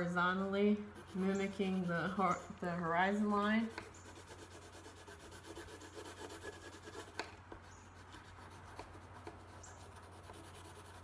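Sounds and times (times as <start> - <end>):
colored pencil scratching paper: 0.3 - 11.0.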